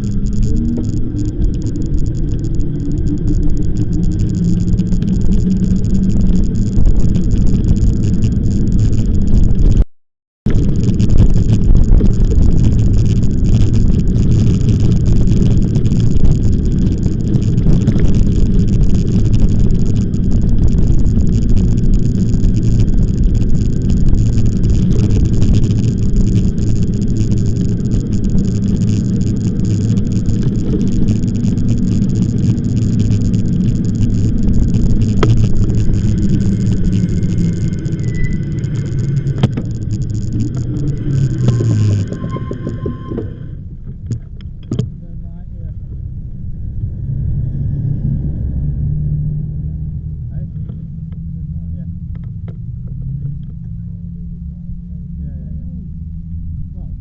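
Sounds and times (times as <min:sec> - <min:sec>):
road noise: 0:00.0 - 0:09.8, 0:10.5 - 0:57.0
wind noise on microphone: 0:00.0 - 0:57.0.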